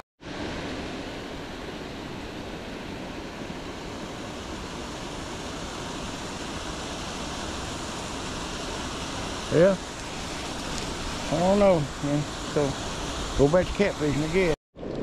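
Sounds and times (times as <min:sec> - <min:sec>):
water rushing over rocks: 0:00.2 - 0:15.0.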